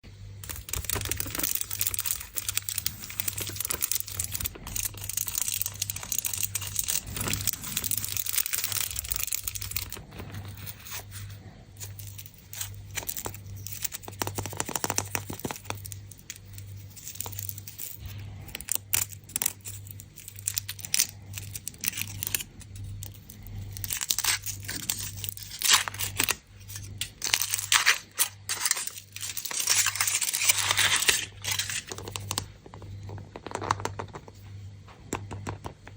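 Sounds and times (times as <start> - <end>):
wrappers rustling and crinkling: 0.4 - 32.5.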